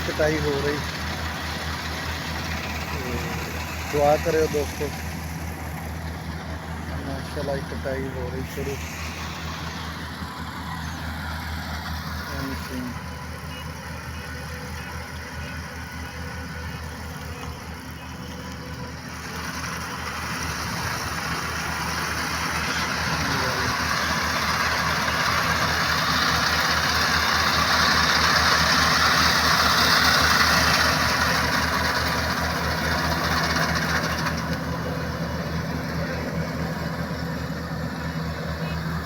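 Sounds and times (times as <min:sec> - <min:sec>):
rushing noise of cutting and threshing: 0:00.0 - 0:13.4, 0:14.0 - 0:39.0
combine harvester engine hum: 0:00.0 - 0:39.0.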